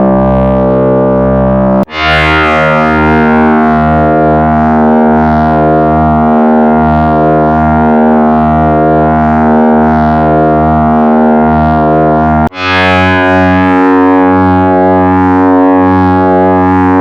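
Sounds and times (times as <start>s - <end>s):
synthesizer bass drone: 0.0s - 17.0s.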